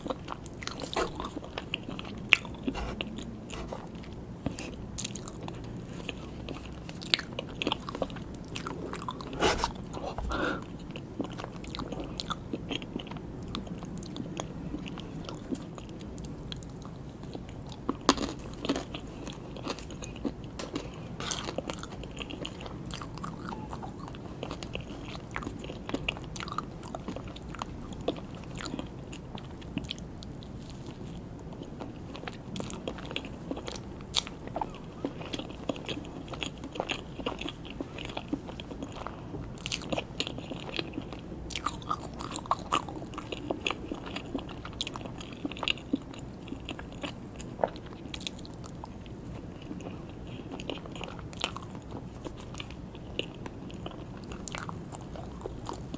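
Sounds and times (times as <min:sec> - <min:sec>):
biting and chewing soft cakes: 0:00.0 - 0:55.9.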